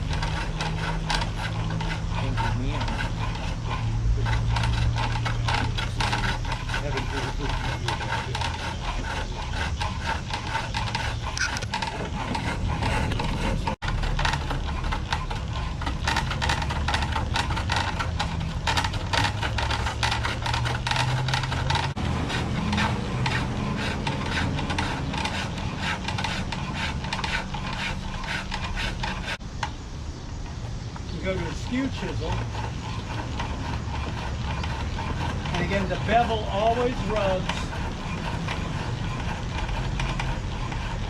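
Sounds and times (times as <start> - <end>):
lathe tool scraping wood: 0.0 - 29.8, 30.4 - 41.0.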